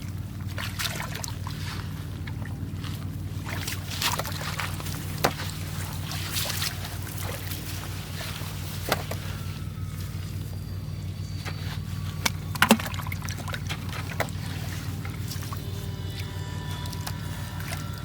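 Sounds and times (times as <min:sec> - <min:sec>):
steady low hum: 0:00.0 - 0:18.0
water splashing and sloshing: 0:00.0 - 0:18.0.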